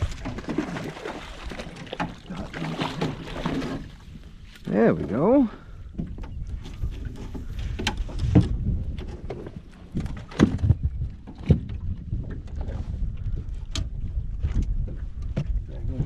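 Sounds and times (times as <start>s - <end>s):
wind rumble on microphone: 0.0s - 2.4s, 3.0s - 16.0s
handling knocks and clicks on boat: 0.0s - 5.2s, 5.8s - 16.0s.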